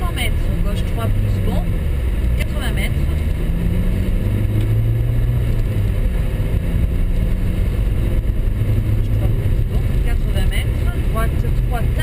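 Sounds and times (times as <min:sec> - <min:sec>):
car engine hum: 0:00.0 - 0:12.0
road and tyre noise: 0:00.0 - 0:12.0.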